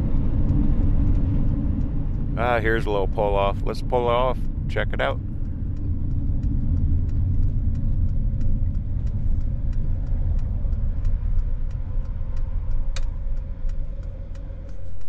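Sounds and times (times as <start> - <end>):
engine and tyre rumble: 0.0 - 15.0
turn signal ticking: 0.0 - 15.0.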